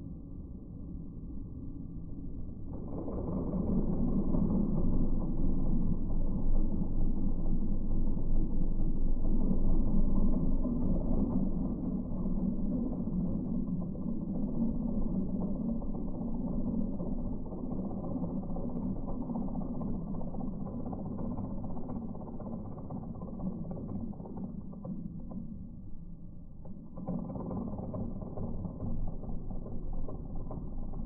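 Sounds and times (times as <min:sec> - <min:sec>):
stump grinder mechanical drone: 0:02.8 - 0:31.0.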